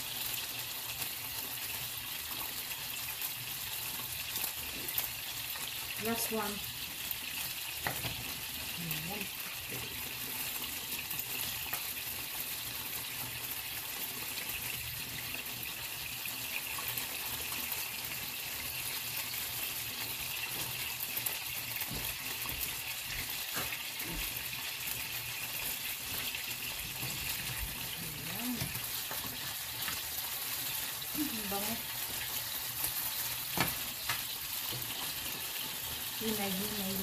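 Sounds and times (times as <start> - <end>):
sausages sizzling in a pan: 0.0 - 37.0.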